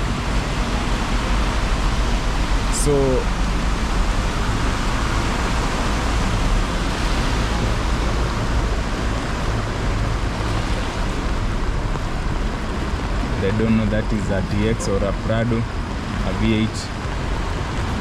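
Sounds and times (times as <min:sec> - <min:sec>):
heavy rain and floodwater rushing: 0:00.0 - 0:18.0.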